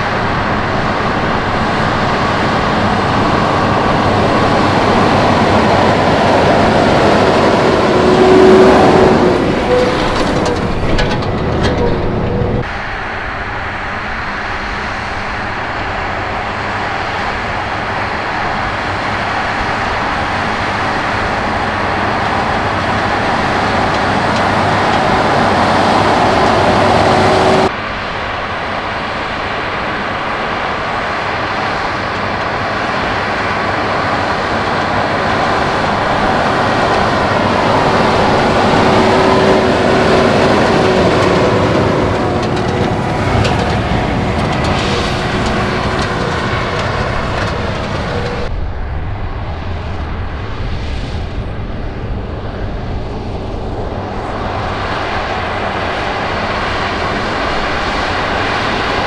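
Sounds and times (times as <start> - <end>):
tractor diesel engine under load: 0.0 - 48.6, 53.3 - 59.0.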